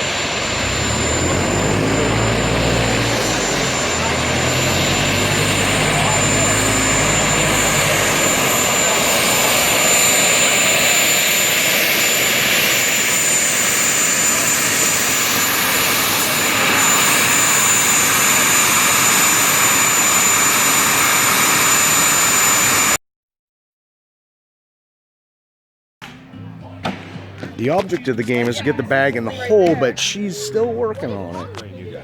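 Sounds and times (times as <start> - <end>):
jet engine roaring with whine: 0.0 - 23.0, 27.8 - 32.0.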